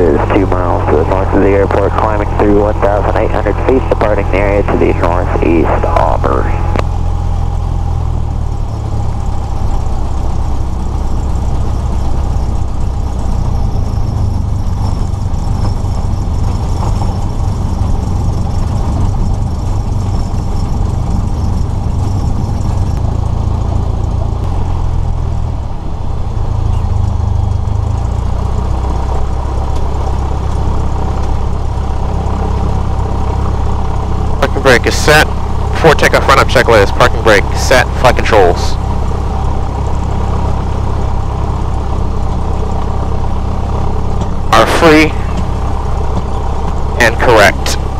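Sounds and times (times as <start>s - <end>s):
aircraft engine and propeller drone: 0.0s - 47.9s.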